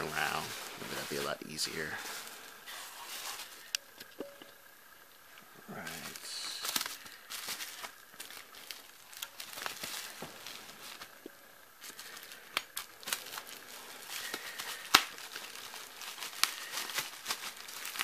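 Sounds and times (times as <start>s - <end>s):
bubble wrap crinkling: 0.0s - 5.0s, 5.7s - 18.0s.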